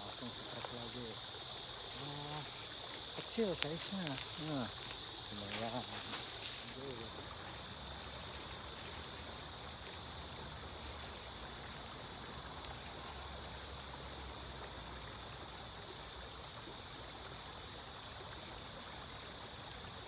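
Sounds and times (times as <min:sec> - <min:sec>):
river hiss: 0:00.0 - 0:20.0.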